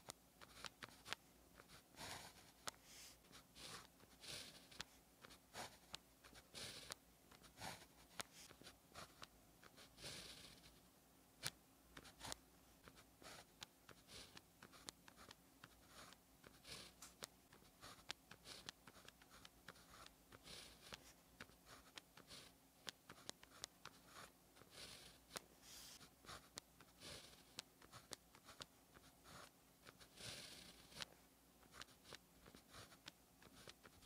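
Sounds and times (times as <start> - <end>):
pen scratching on paper: 0.0 - 10.8, 11.4 - 34.0.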